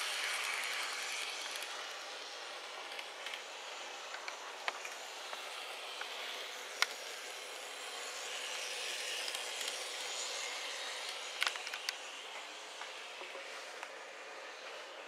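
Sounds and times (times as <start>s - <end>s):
model trains whirring on track: 0.0s - 15.0s.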